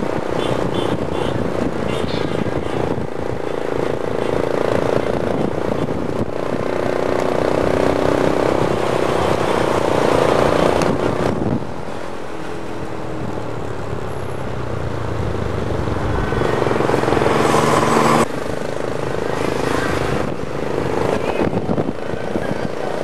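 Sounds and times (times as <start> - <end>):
vehicle engine drone: 0.0 - 23.0
wind and road noise: 0.0 - 23.0.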